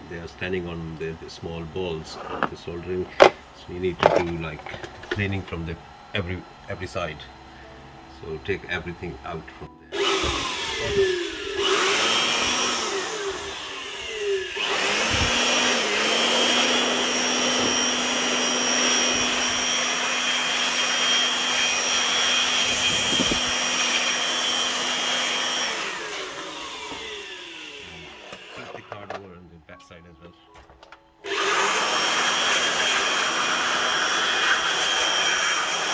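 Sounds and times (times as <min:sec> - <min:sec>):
air blower whine: 0:00.0 - 0:30.1, 0:31.2 - 0:35.9.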